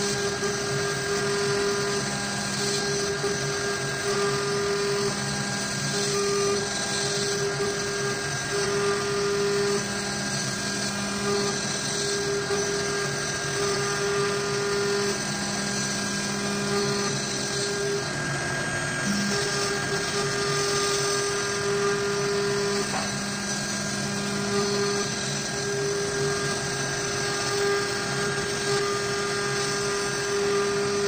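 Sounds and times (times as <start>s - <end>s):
bit cutting wood: 0.0s - 31.0s
humming tone: 0.0s - 31.0s
router spindle whine: 0.0s - 31.0s.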